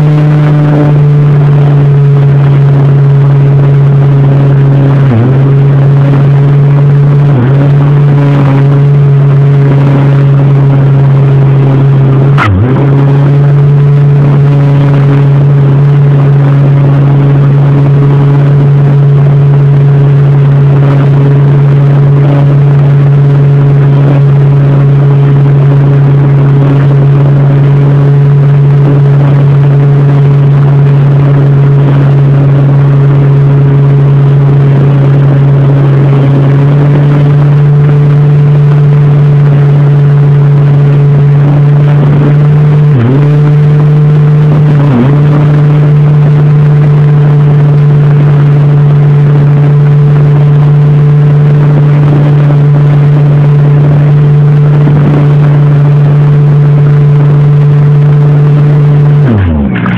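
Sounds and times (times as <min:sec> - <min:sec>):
model plane motor whine: 0:00.0 - 0:59.8.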